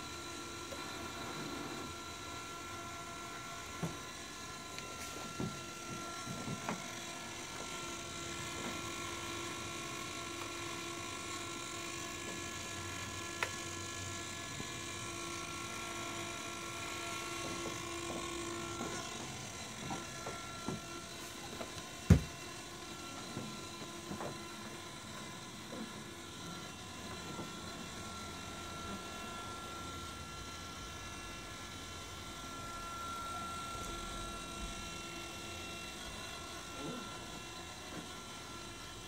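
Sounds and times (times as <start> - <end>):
electric buzz and whine of servos: 0.0 - 39.0.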